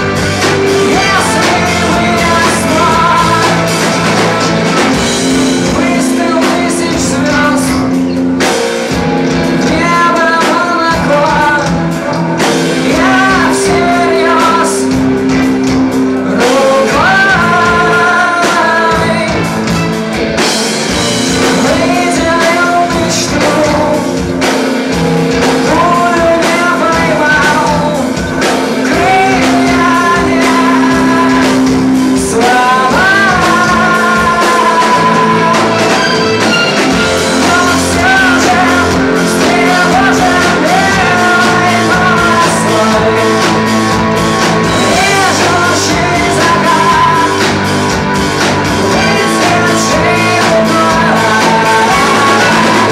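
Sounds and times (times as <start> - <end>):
bass guitar: 0.0 - 52.9
drum kit: 0.0 - 52.9
electric guitars: 0.0 - 52.9
male lead vocal: 0.0 - 52.9.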